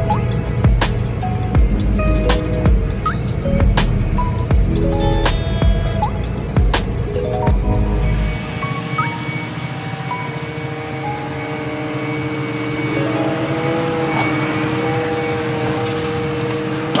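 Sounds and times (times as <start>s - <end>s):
tractor and rake droning: 0.0s - 17.0s.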